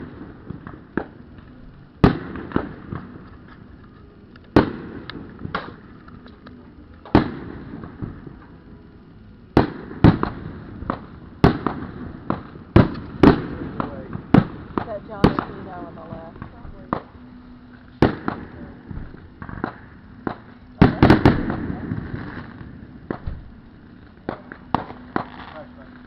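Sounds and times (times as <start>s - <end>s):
fireworks booming: 0.0s - 26.0s
fireworks pops and crackles: 0.0s - 26.0s.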